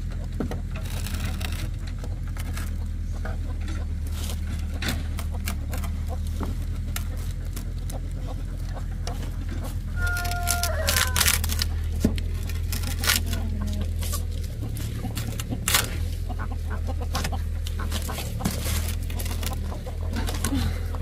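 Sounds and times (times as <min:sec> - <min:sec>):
chickens clucking: 0:00.0 - 0:00.8, 0:01.4 - 0:21.0
steady low hum: 0:00.0 - 0:21.0.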